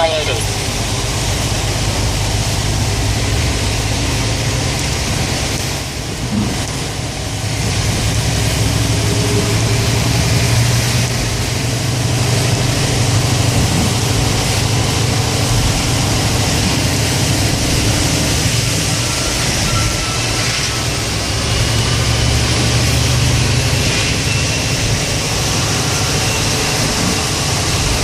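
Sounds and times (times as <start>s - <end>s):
car engine hum: 0.0s - 28.0s
tyres hissing on wet pavement: 0.0s - 28.0s.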